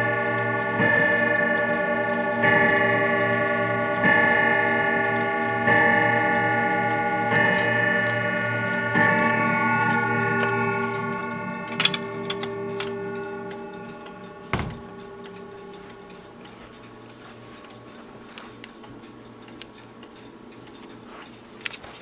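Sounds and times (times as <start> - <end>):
grandfather clock striking: 0.0 - 18.0.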